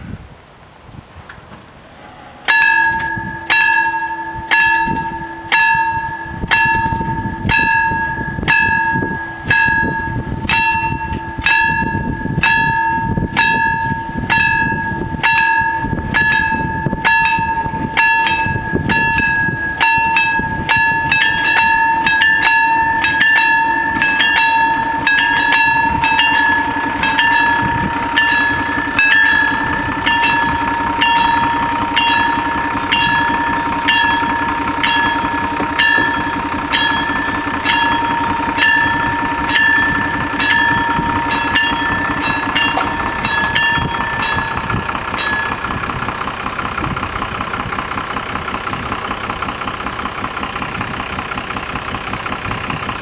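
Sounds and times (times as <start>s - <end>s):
level crossing bells ringing: 1.8s - 52.7s.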